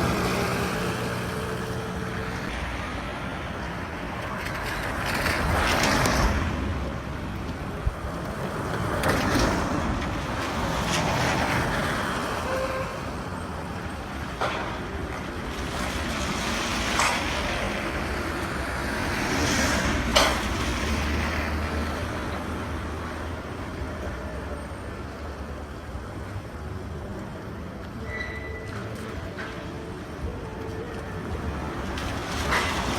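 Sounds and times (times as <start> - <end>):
vehicles passing: 0.0 - 32.9.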